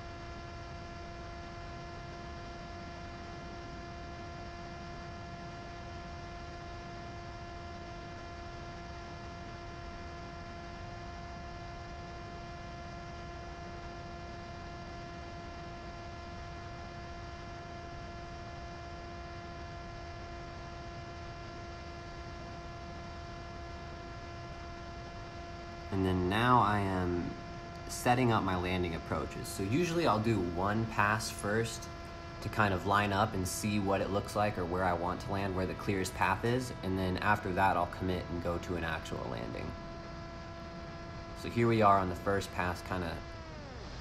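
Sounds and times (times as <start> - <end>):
steady whining hum: 0.0 - 44.0.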